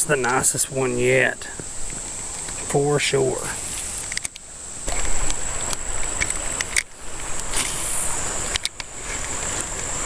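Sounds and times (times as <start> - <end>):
shallow creek rushing: 0.0 - 10.0
wind rumbling on microphone: 0.0 - 10.0.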